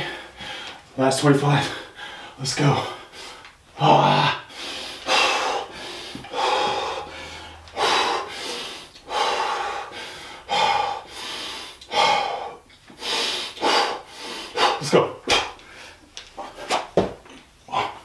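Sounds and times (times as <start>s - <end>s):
man breathing hard: 0.0s - 0.8s, 1.6s - 16.7s.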